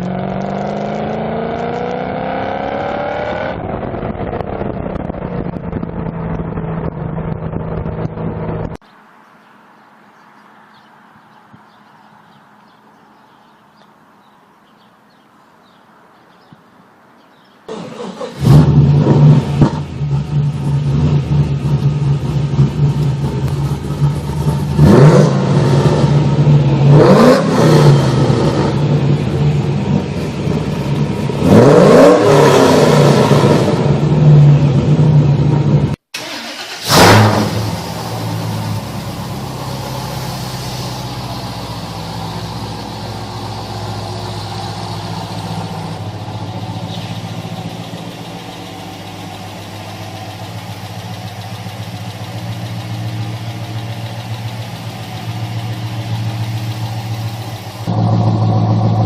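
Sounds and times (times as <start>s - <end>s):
car engine starting and revving: 0.0s - 8.8s, 17.7s - 59.0s.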